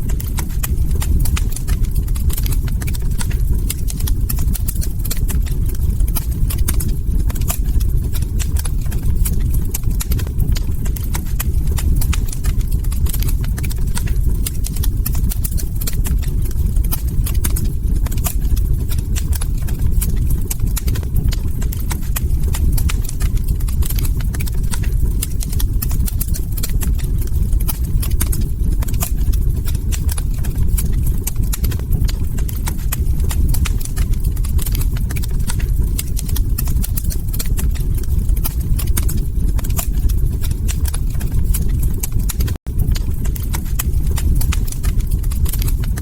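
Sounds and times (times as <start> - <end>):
log fire crackling: 0.0 - 46.0.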